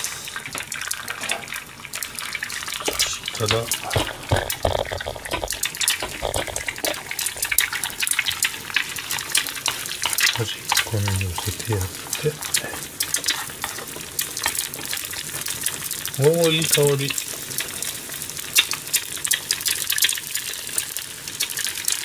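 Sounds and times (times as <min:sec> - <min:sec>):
eggs sizzling in oil: 0:00.0 - 0:22.0.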